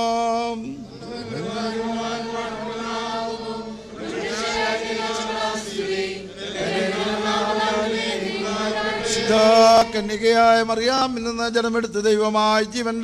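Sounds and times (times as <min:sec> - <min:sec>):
choir singing a slow chant: 0:00.0 - 0:10.6.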